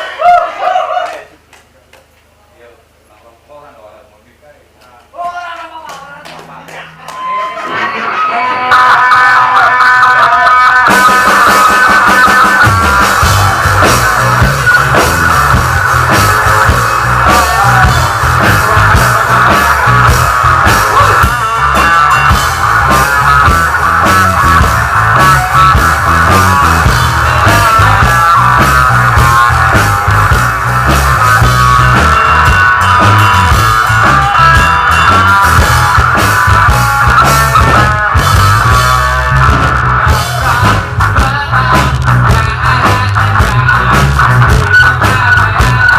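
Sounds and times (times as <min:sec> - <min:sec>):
rock band guitar and drums: 0:06.2 - 0:45.9.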